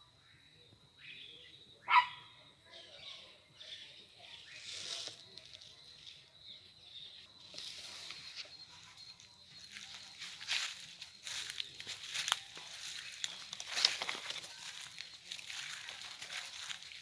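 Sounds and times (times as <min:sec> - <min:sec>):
faint animal sounds: 0:00.0 - 0:16.8
crickets trilling: 0:00.0 - 0:17.0.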